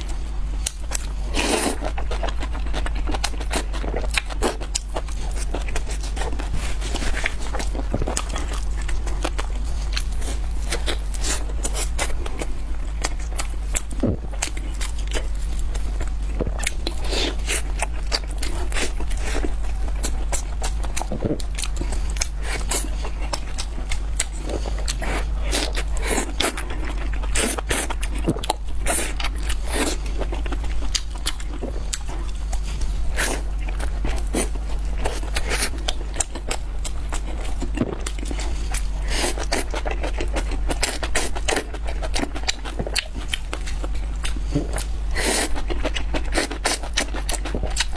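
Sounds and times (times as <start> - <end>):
crunchy eating and chewing: 0.0 - 47.9
steady low hum: 0.0 - 47.9.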